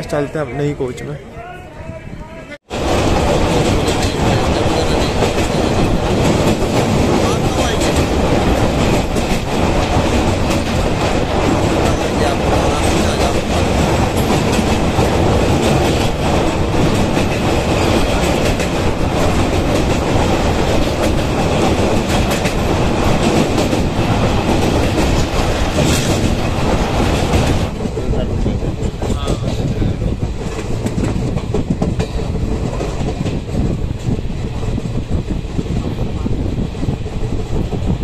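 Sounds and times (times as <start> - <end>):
train wheels rumbling on rails: 2.6 - 38.0
rapid clickety-clack: 2.8 - 38.0.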